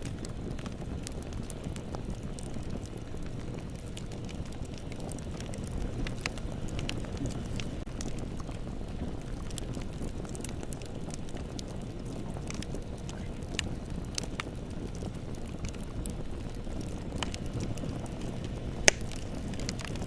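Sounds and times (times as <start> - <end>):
bonfire flames rumbling: 0.0 - 20.0
fire crackling and popping: 0.0 - 20.0.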